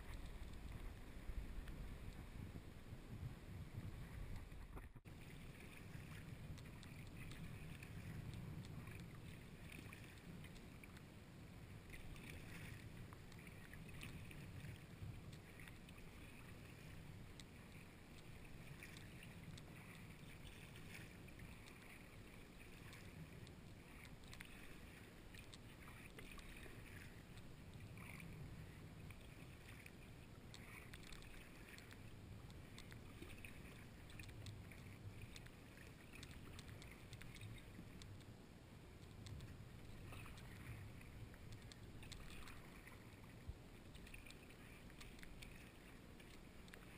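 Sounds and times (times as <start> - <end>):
water washing along hull: 0.0 - 38.2, 38.9 - 46.9
paddle splashing in water: 4.1 - 11.0, 11.8 - 27.2, 27.9 - 37.8, 39.8 - 46.9.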